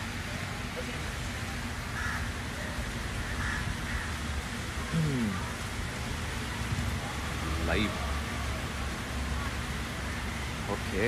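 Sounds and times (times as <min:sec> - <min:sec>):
outdoor ambient hiss: 0:00.0 - 0:11.0.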